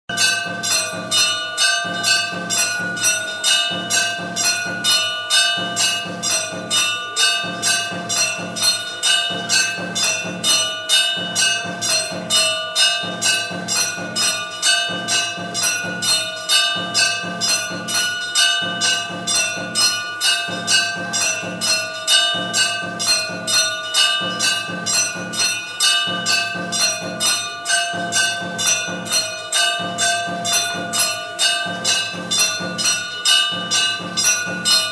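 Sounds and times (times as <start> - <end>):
temple bell ringing: 0.1 - 34.9.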